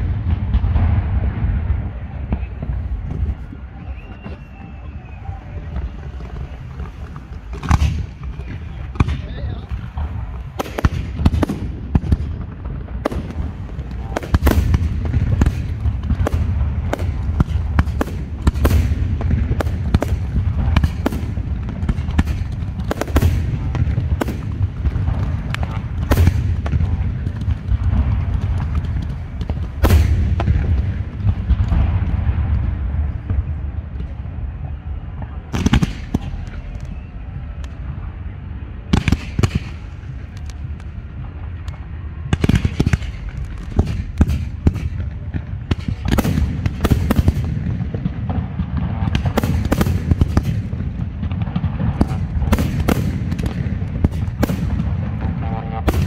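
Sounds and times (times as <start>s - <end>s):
fireworks bangs: 0.0s - 56.0s
low rumble: 0.0s - 56.0s.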